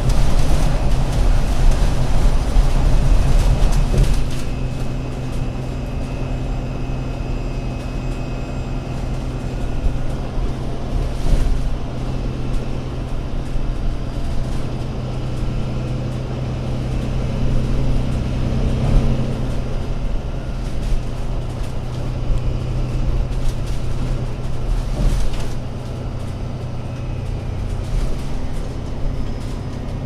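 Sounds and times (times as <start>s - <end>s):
bus engine humming: 0.0s - 30.0s.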